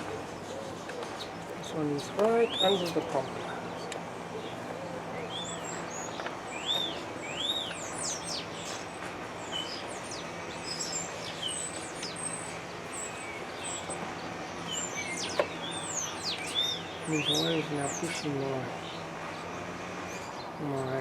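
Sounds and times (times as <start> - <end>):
steady low hum: 0.0 - 21.0
wild birds chirping: 0.0 - 21.0.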